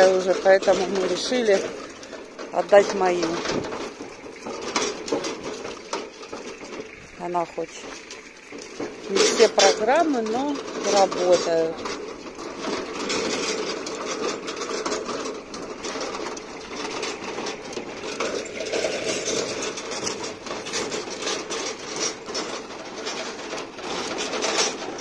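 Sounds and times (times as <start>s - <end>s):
metal cart rattling: 0.0s - 25.0s
wheels crunching on gravel: 0.0s - 25.0s.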